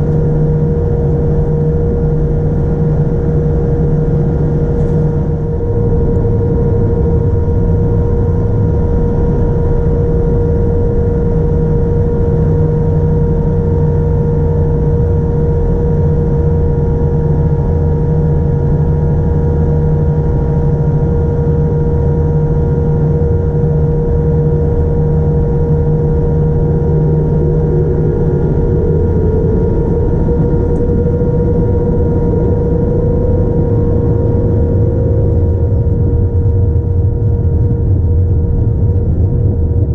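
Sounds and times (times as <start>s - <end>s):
rising engine tone: 0.0s - 20.7s, 21.7s - 39.9s
jet engines running: 0.0s - 39.9s.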